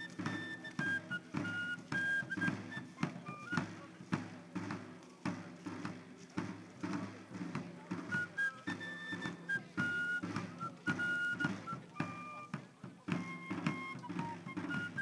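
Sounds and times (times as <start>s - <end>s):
field drums beating: 0.0s - 15.0s.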